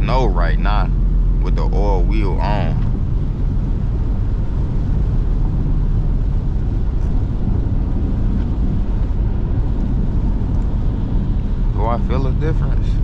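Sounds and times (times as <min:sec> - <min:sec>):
engine and road noise drone: 0:00.0 - 0:13.0.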